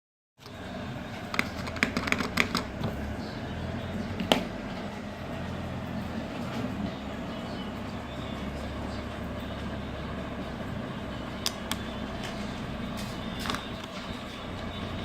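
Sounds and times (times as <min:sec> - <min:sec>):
low background hum: 0:00.4 - 0:15.0.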